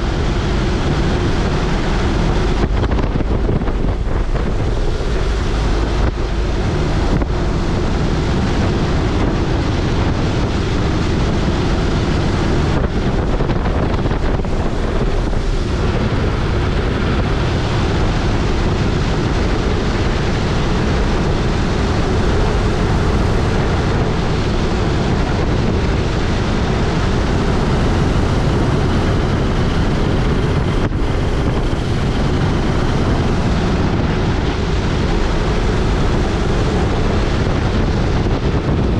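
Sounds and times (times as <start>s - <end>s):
aircraft engine and propeller drone: 0.0s - 38.9s
wind rush on microphone: 0.0s - 38.9s.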